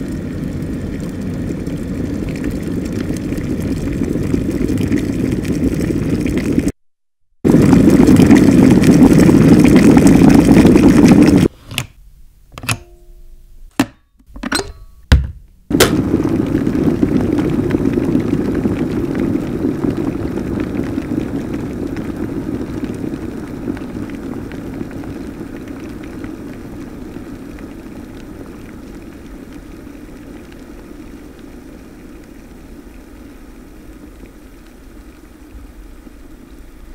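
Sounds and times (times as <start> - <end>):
kettle boiling rumble: 0.0 - 6.8, 7.5 - 11.6, 13.8 - 36.9.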